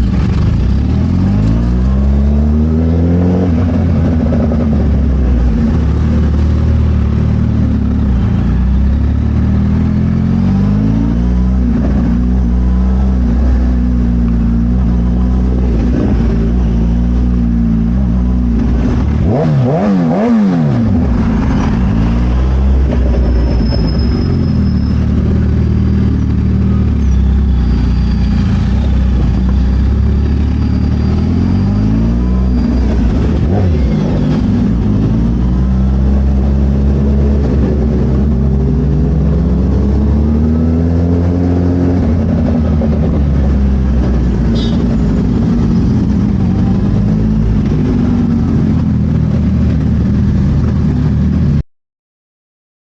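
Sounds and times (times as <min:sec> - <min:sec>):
motorcycle engine revving: 0:00.0 - 0:51.6.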